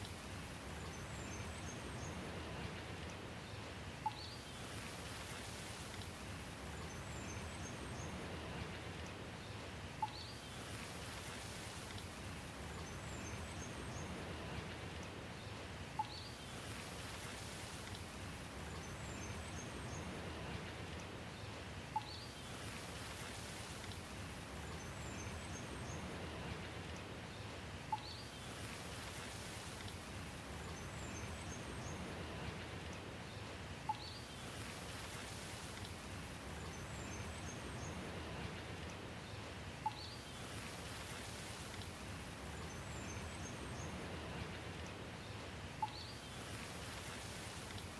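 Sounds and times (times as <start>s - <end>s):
soft rain hiss: 0.0s - 47.9s.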